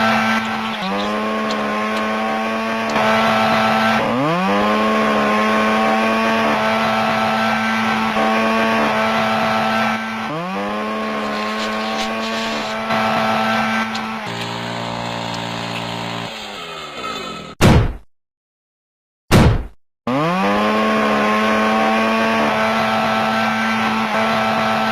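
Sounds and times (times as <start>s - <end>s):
chainsaw revving: 0.0s - 17.3s, 20.1s - 24.9s.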